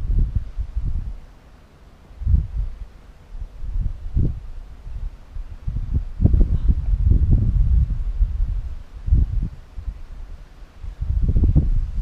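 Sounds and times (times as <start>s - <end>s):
wind buffeting microphone: 0.0s - 1.3s, 2.2s - 12.0s.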